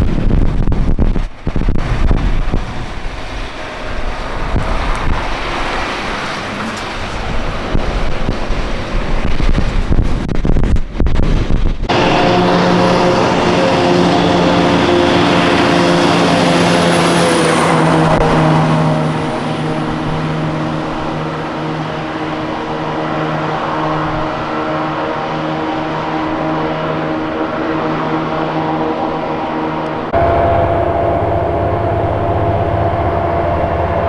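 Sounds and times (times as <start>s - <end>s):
heavy truck engine running: 1.3s - 9.8s, 11.8s - 34.0s.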